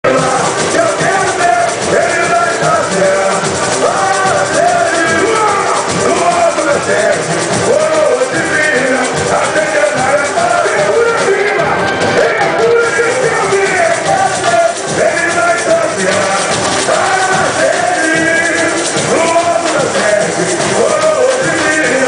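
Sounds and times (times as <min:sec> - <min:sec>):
samba drumming and shakers: 0:00.0 - 0:22.0
samba singing: 0:00.0 - 0:22.0.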